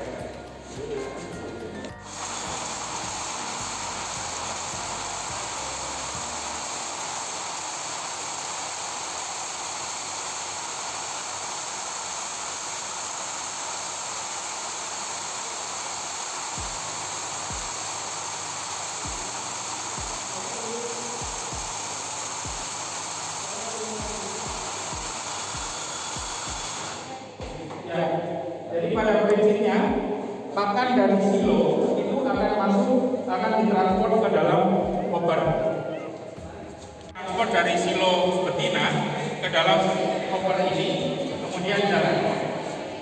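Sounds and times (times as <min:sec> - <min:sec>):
steady hissing noise: 0:00.0 - 0:43.0.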